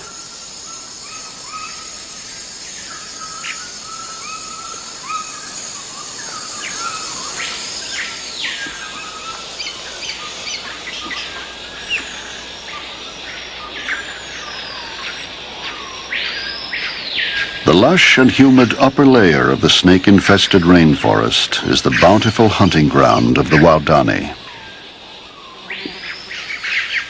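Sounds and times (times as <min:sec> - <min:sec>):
birds chirping and whistling: 0:00.0 - 0:19.7, 0:20.5 - 0:27.0
high insect drone: 0:00.0 - 0:27.0.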